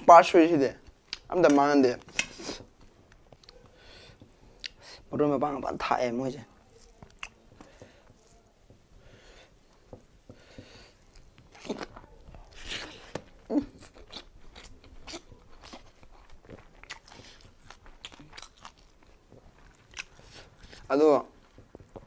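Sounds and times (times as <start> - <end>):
person chewing crunchy food: 0.9 - 22.0.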